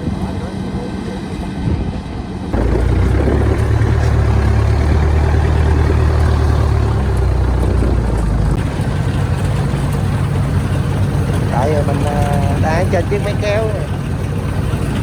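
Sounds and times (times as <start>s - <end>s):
diesel engine drone: 2.6s - 15.0s.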